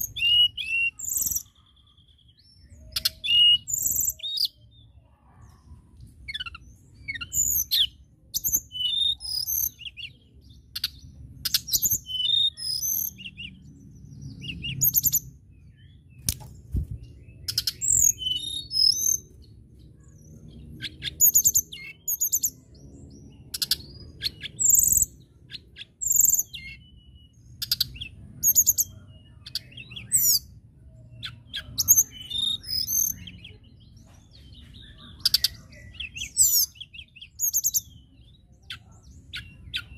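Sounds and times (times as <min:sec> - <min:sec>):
bird singing high phrases: 0:00.0 - 0:39.9.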